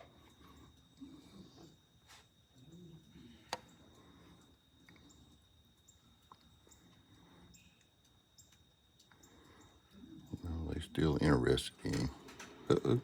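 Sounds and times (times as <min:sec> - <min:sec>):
faint high chirps: 0:00.0 - 0:11.2
steady high-pitched whine: 0:00.0 - 0:13.0.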